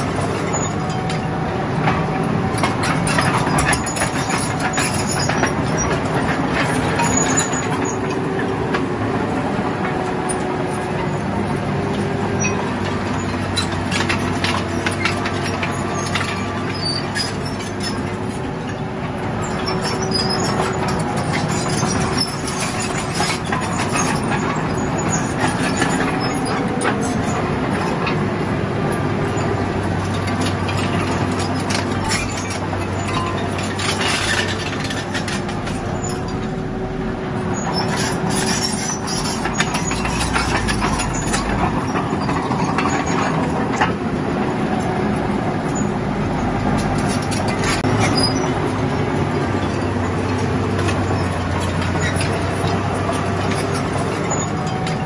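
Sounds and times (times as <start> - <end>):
diesel engine under load: 0.0 - 55.0
steel tracks clanking and squealing: 0.0 - 55.0.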